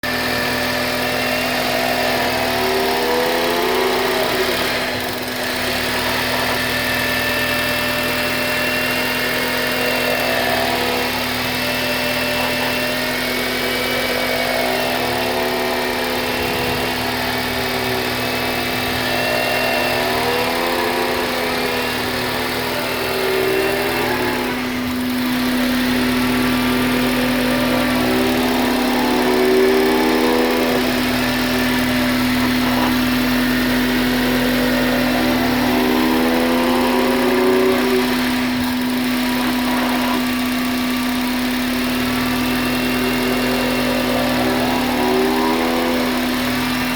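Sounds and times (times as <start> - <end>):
car running with steady hum: 0.0 - 46.9
pitched whine: 0.0 - 46.9.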